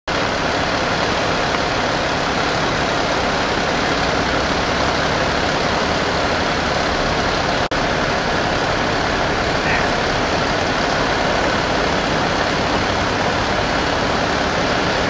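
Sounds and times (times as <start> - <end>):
heavy diesel engine idling: 0.1 - 15.0.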